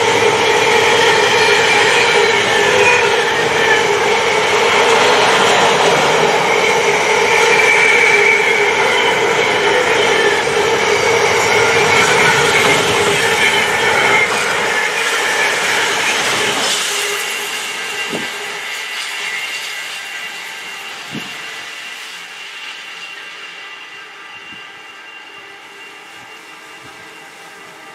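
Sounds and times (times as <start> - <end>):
freight train rolling on rails: 0.0 - 27.9
train wheels whining: 0.0 - 27.9.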